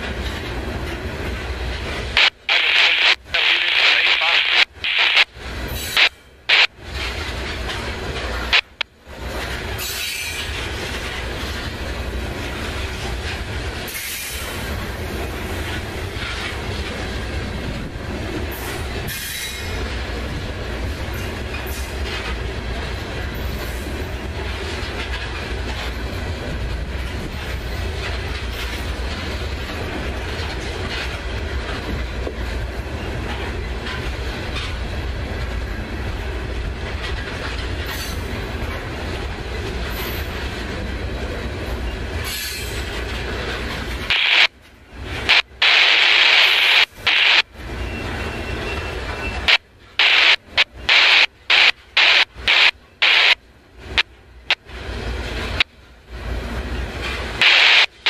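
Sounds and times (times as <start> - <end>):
train wheels rumbling and clicking: 0.0 - 58.0.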